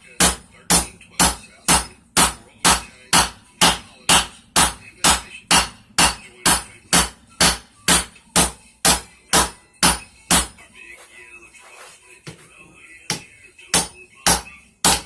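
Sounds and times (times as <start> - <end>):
hammer striking steel on anvil: 0.2 - 10.6, 13.1 - 15.0.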